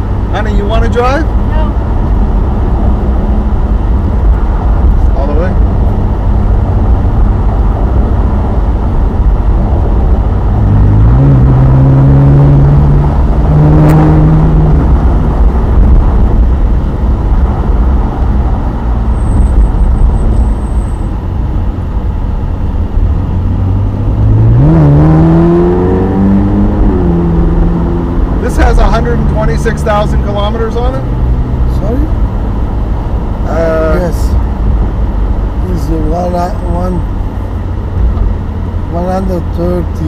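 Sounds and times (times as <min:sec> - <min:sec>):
car engine accelerating: 0:00.0 - 0:40.0
wind and road noise: 0:00.0 - 0:40.0.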